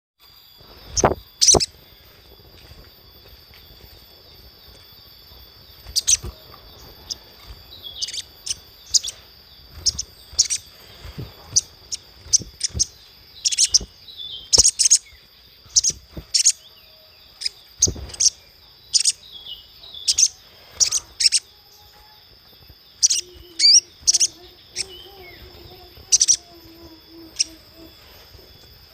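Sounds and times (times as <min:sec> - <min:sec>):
bird chirping: 0:00.2 - 0:28.9
steady high-pitched hum: 0:00.2 - 0:28.9.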